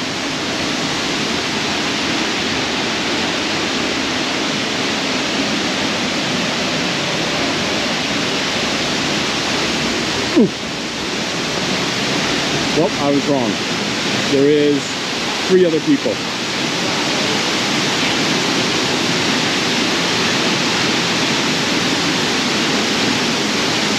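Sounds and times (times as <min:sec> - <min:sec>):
waterfall rushing into pool: 0:00.0 - 0:23.9.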